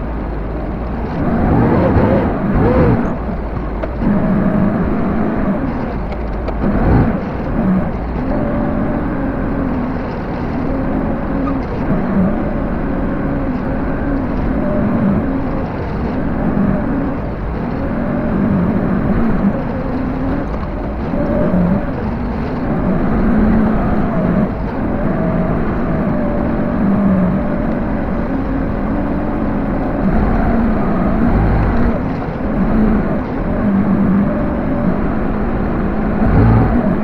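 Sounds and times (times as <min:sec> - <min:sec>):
backhoe engine running: 0:00.0 - 0:37.0.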